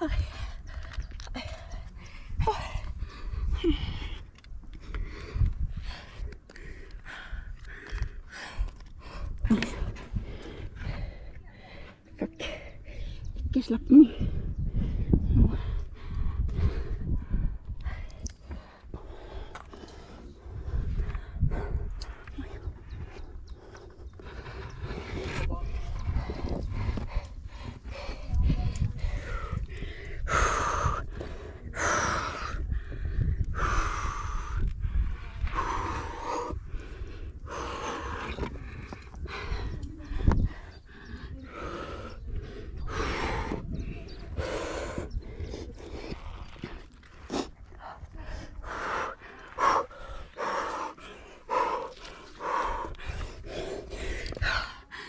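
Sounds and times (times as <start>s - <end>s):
person breathing hard: 0.0s - 13.2s, 14.2s - 55.0s.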